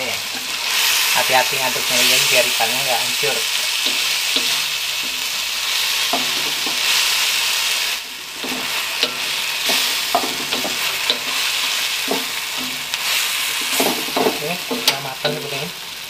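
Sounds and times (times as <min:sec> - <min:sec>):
fish sizzling in hot oil: 0:00.0 - 0:16.0
wooden spatula scraping a wok: 0:00.0 - 0:16.0.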